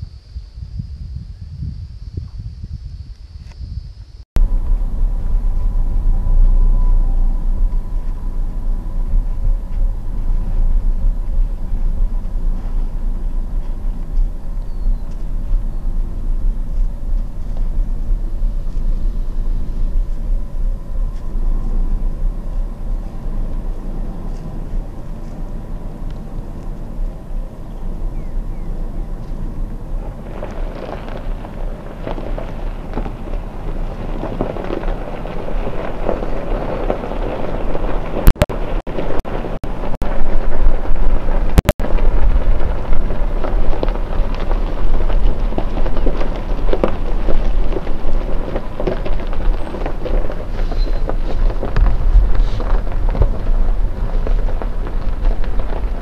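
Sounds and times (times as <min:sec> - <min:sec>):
wind buffeting microphone: 0:00.0 - 0:56.0
vehicle engine running: 0:04.4 - 0:56.0.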